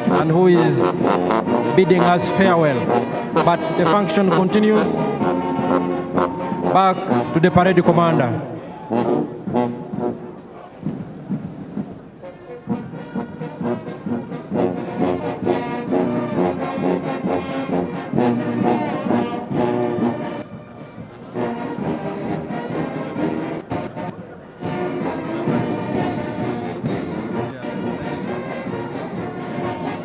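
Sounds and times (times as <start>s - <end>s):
brass band playing chords: 0.0s - 30.0s.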